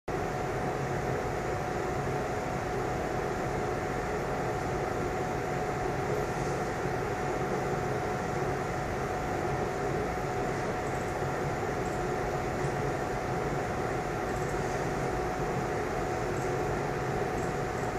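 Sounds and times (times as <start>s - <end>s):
constant mid-pitched tone: 0.1s - 17.9s
mechanical hum and hiss: 0.1s - 17.9s.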